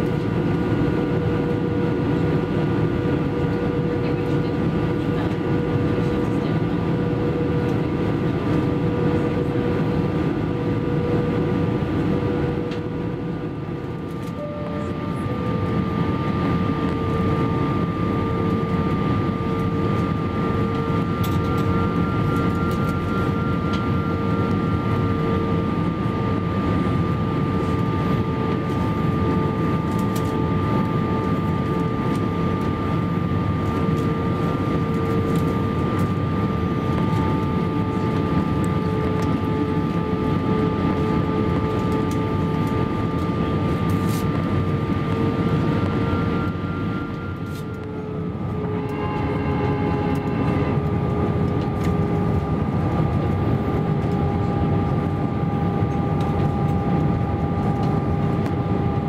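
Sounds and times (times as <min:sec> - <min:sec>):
jet engine drone: 0:00.0 - 0:59.0
steady whining tones: 0:00.0 - 0:59.0.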